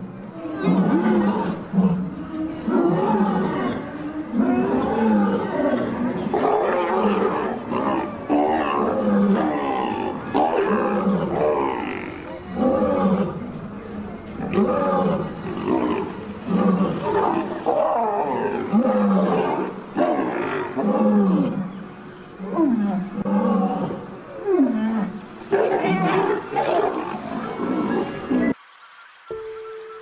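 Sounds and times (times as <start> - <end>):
big cat roaring and growling: 0.3 - 21.8, 22.4 - 28.6.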